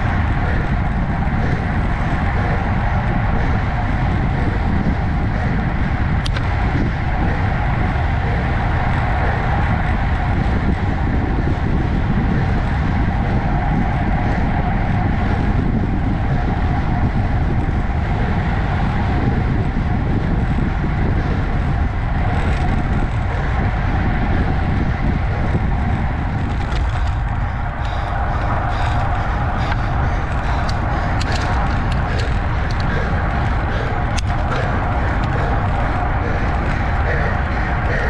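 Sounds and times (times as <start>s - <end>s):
bike tyre noise on asphalt: 0.0s - 38.0s
wind rushing over microphone: 0.0s - 38.0s.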